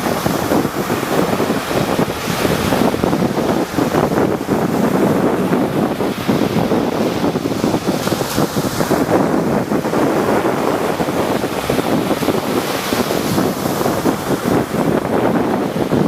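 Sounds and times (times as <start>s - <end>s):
rough sea surf breaking: 0.0s - 16.0s
wind buffeting microphone: 0.0s - 16.0s.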